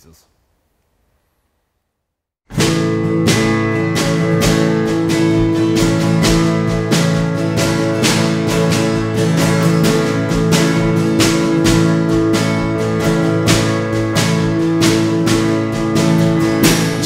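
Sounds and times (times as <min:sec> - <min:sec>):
acoustic guitar strumming: 0:02.5 - 0:17.0
held keyboard chords: 0:02.5 - 0:17.0.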